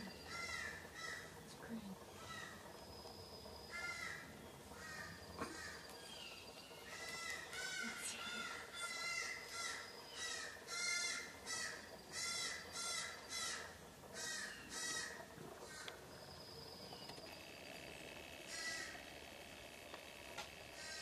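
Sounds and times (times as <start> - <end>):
harsh rasping bird calls: 0.0 - 17.2, 18.0 - 21.0
faint steady high whine: 0.0 - 21.0.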